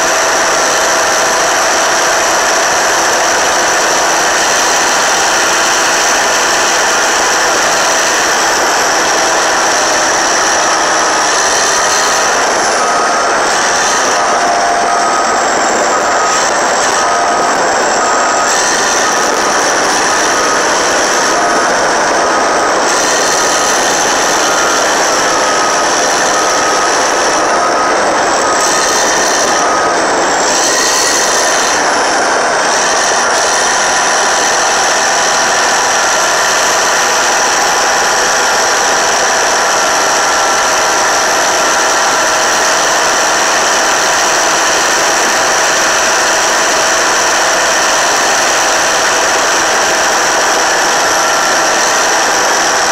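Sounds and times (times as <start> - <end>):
bulldozer diesel engine under load: 0.0 - 52.9
grinding clatter of tracks: 0.0 - 52.9
reverse alarm beeping: 0.0 - 52.9.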